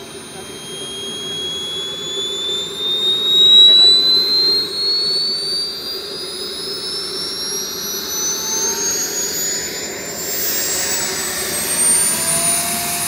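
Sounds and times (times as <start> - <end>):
turbine whine rising in pitch: 0.0 - 13.0.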